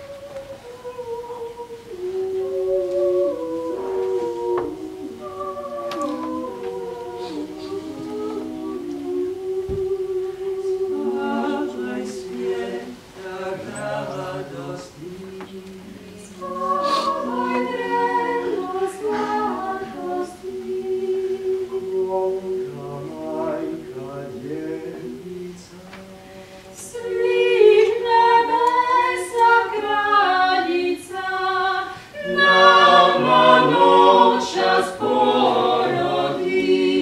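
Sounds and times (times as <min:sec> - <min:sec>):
vocal ensemble singing a cappella: 0:00.0 - 0:37.0.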